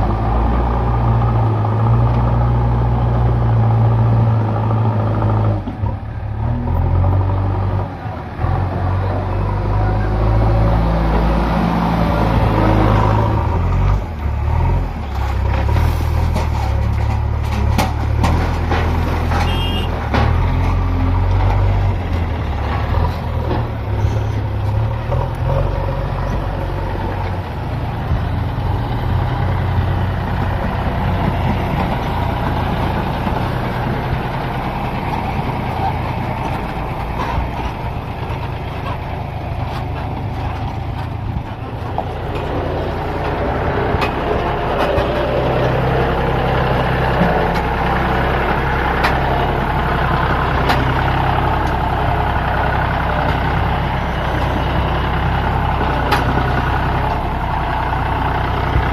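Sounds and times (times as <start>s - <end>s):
backhoe diesel engine running: 0.0s - 58.9s.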